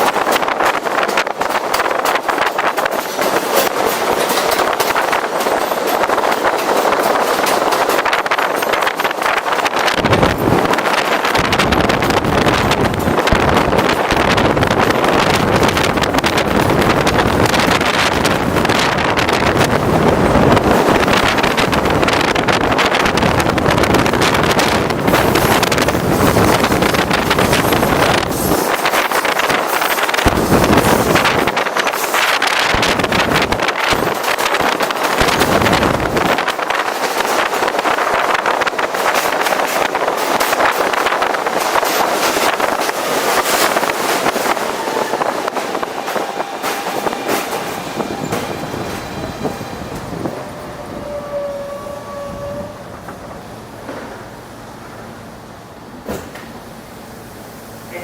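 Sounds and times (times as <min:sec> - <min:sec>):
wind buffeting microphone: 0:00.0 - 0:56.6
train running rumble: 0:00.0 - 0:58.0.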